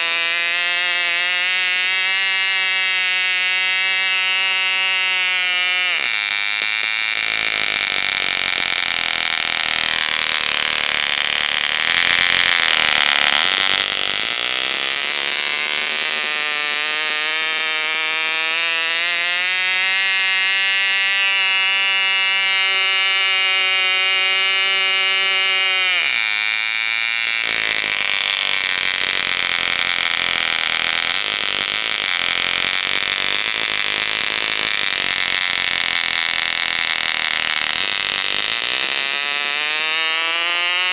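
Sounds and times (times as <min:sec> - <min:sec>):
model glow engine running: 0:00.0 - 0:40.9.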